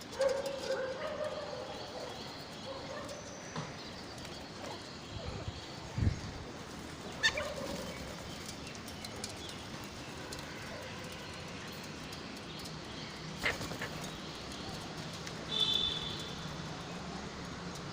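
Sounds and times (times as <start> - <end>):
steady background noise: 0.0 - 17.9.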